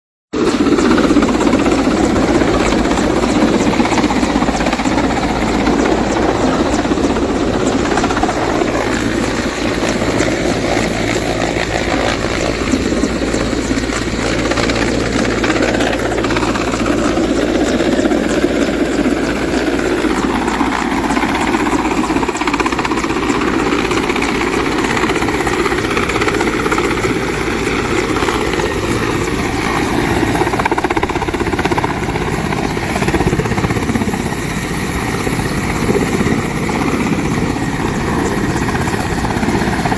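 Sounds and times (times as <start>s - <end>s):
helicopter rotor and engine: 0.4s - 39.9s.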